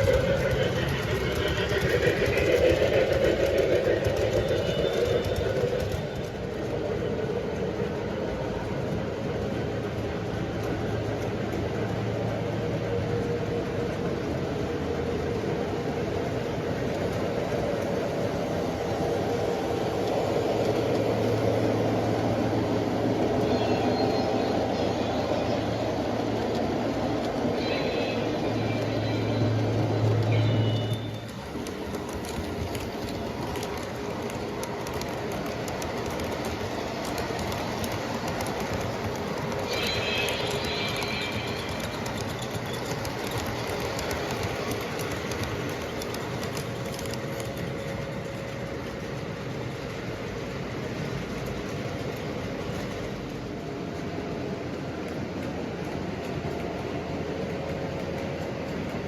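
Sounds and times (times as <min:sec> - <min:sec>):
model train running on track: 0:00.0 - 0:59.0.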